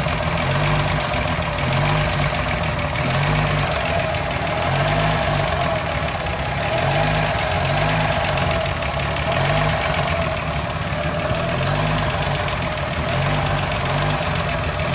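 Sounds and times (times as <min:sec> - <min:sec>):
petrol engine idling roughly: 0:00.0 - 0:14.9.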